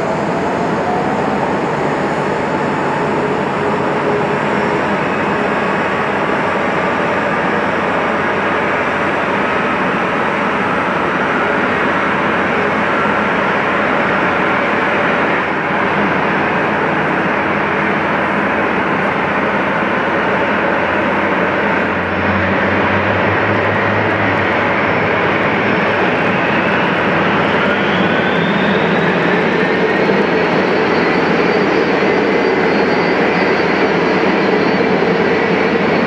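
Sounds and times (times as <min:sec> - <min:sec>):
jet engine spooling up whine: 0:00.0 - 0:36.0
jet engines running: 0:00.0 - 0:36.0.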